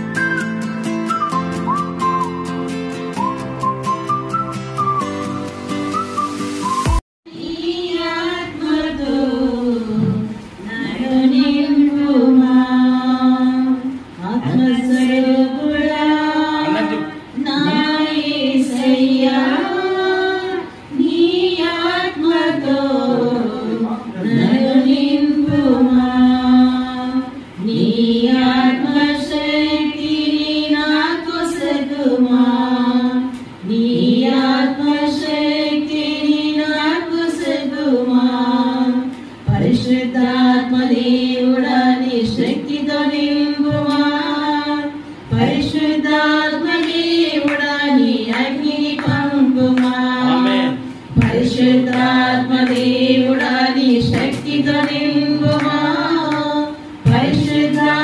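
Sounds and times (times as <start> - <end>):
women singing a hymn: 7.3 - 58.0.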